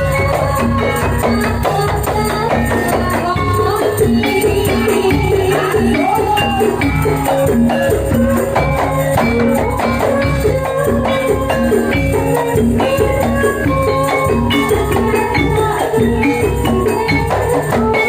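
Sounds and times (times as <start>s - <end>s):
drum beat: 0.0s - 18.0s
folk band music: 0.0s - 18.0s
melody line: 0.0s - 18.0s.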